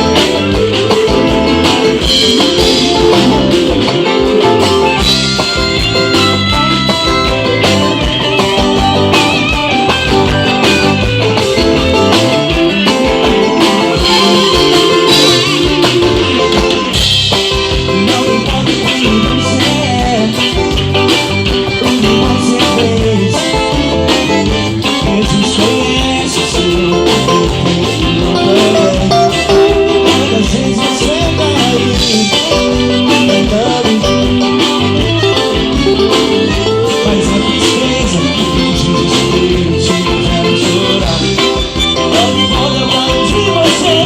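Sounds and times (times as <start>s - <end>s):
guitar: 0.0s - 44.0s
person singing: 0.0s - 44.0s
steady drum beat: 0.0s - 44.0s.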